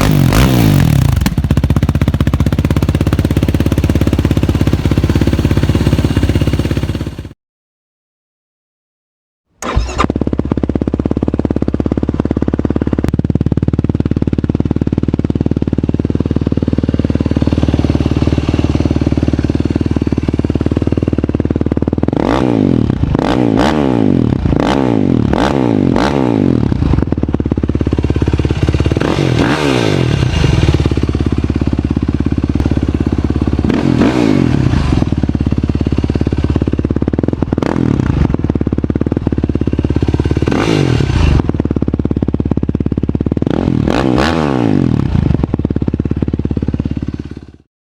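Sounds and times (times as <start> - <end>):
quad bike engine revving: 0.0 - 7.3, 9.6 - 47.6.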